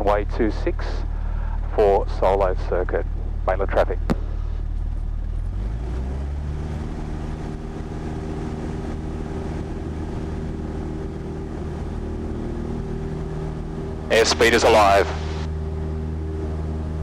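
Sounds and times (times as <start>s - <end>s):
propeller plane engine at takeoff power: 0.0s - 17.0s.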